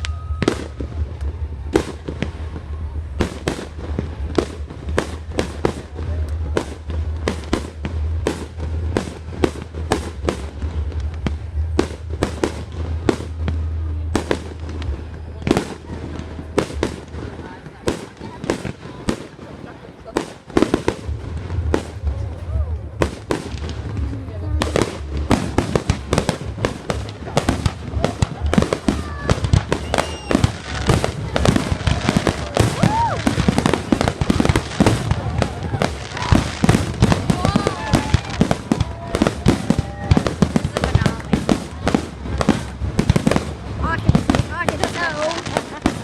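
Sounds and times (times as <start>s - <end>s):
fireworks banging: 0.0s - 46.0s.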